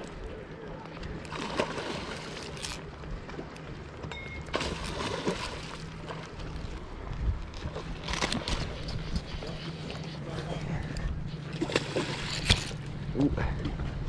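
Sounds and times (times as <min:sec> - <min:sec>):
flowing water: 0:00.0 - 0:13.2.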